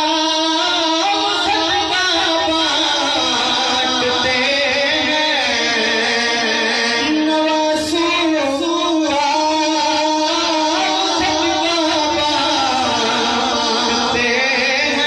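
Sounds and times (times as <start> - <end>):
man singing through microphone: 0.0 - 15.0.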